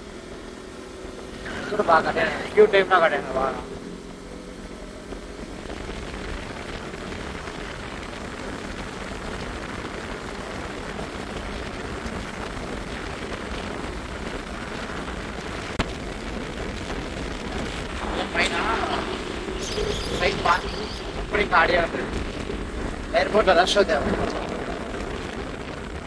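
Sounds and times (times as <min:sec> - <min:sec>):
motorcycle road and engine noise: 0:00.0 - 0:26.0
wind rushing over microphone: 0:00.0 - 0:26.0.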